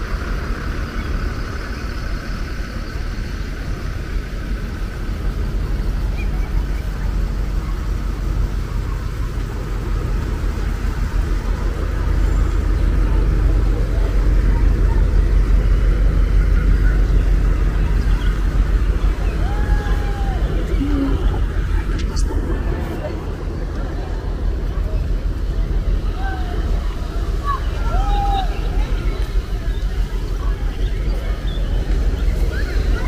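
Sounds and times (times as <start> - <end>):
car engines rumbling: 0.0 - 33.0.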